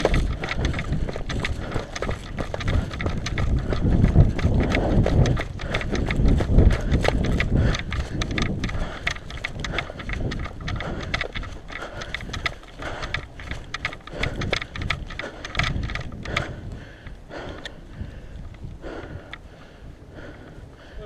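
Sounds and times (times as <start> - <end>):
footsteps: 0.0 - 17.8
gear knocking and rustling: 0.0 - 21.0
wind rumble on microphone: 0.0 - 21.0.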